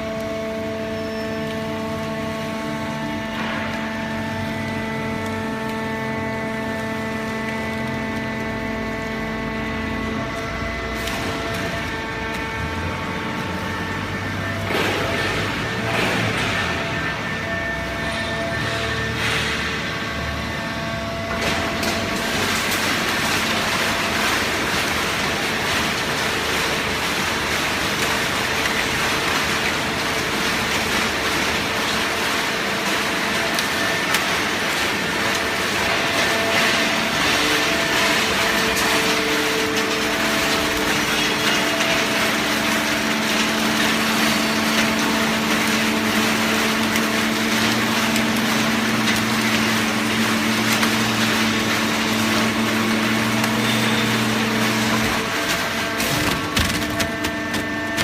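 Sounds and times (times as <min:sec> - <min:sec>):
hydraulic unit hum: 0:00.0 - 0:58.0.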